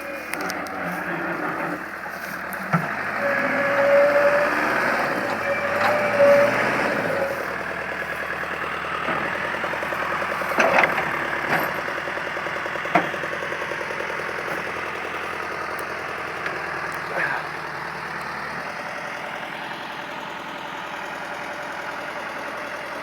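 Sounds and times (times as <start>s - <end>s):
backhoe diesel engine running: 0.0s - 23.0s.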